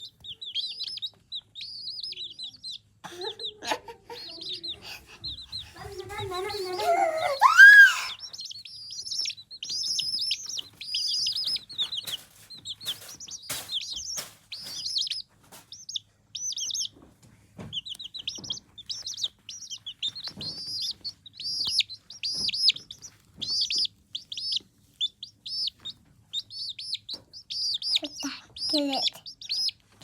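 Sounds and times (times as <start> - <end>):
baby chicks peeping: 0.0 - 30.0.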